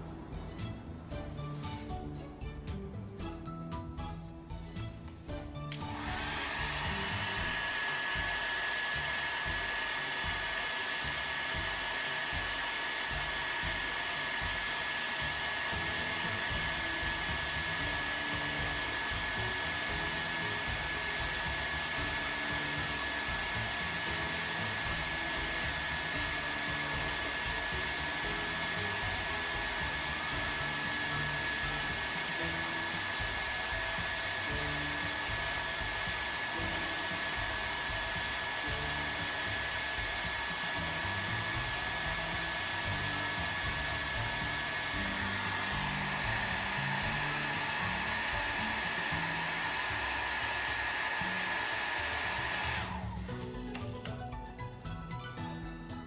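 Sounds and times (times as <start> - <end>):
background music: 0.0 - 56.0
electric fan running with whine: 5.7 - 53.4.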